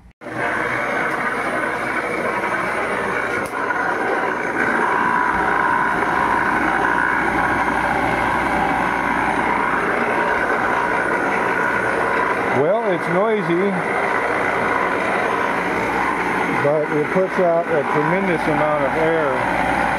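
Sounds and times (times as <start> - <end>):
air blower rushing and humming: 0.0 - 19.9.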